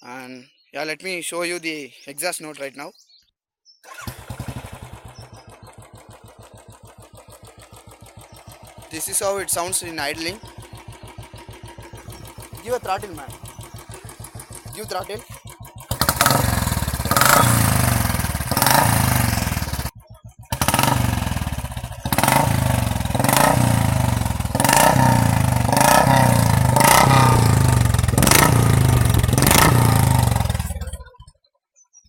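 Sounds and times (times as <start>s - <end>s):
motorcycle engine revving: 3.8s - 31.2s.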